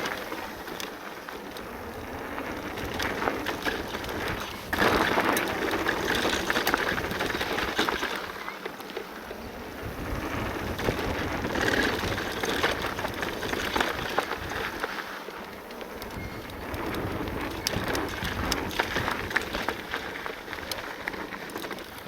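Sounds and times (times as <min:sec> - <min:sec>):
bike rattling over bumps: 0:00.0 - 0:22.0
tyre noise on gravel: 0:00.0 - 0:22.0.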